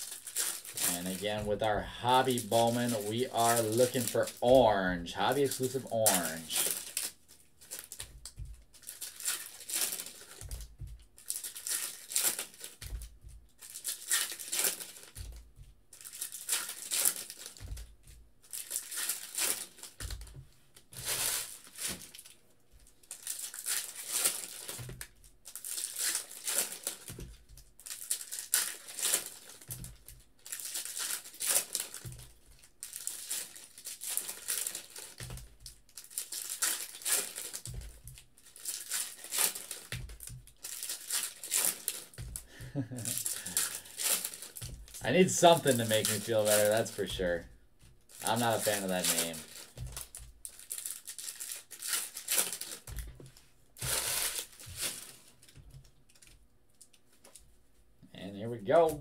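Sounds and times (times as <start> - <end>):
foil wrappers tearing and crinkling: 0.0 - 53.2, 53.8 - 57.4.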